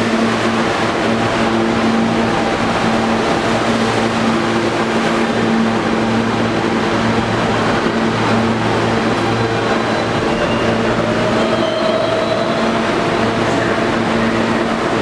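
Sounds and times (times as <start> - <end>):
low motor hum: 0.0 - 15.0
train wheels rumbling on rail: 0.0 - 15.0.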